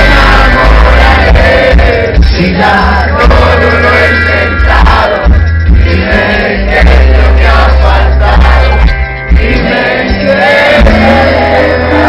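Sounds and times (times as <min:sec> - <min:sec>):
live rock band playing: 0:00.0 - 0:12.0
voices singing: 0:00.0 - 0:12.0.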